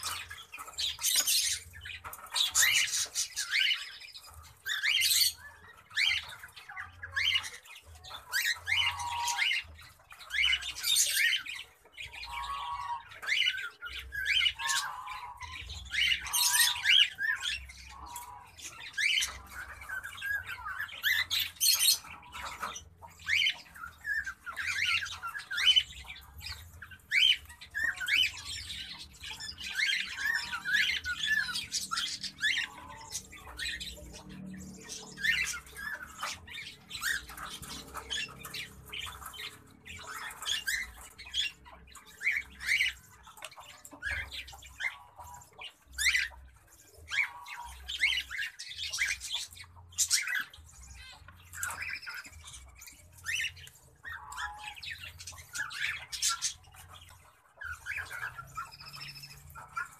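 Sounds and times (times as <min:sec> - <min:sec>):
cockatiels squawking: 0:00.0 - 0:59.9.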